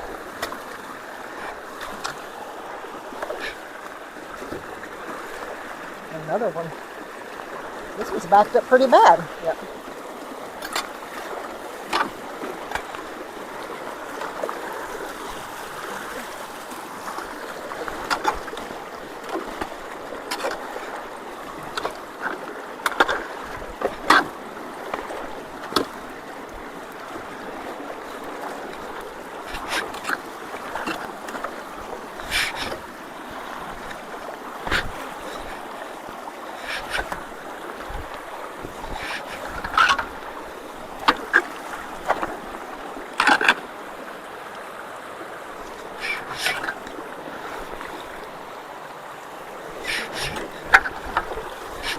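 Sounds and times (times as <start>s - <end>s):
water rushing through culvert: 0.0s - 51.9s
water splashes: 0.0s - 51.9s.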